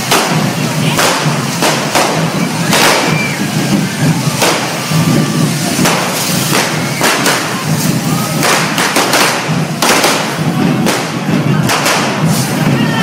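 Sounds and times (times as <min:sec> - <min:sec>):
hiss of spraying sparks: 0:00.0 - 0:12.7
firework bangs and cracks: 0:00.0 - 0:13.0.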